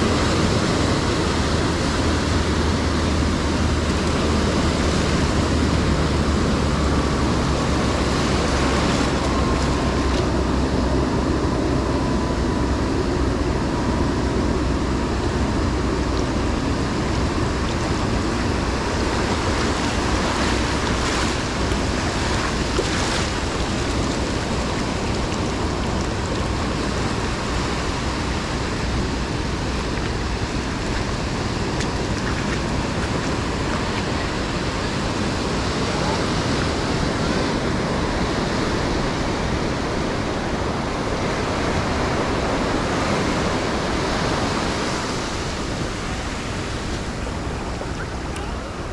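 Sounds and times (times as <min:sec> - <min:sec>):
ocean surf breaking on beach: 0:00.0 - 0:48.9.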